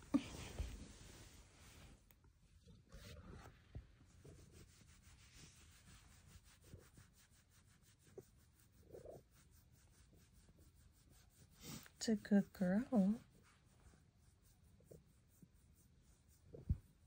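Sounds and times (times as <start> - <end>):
hand rubbing cat fur: 0.0 - 17.0.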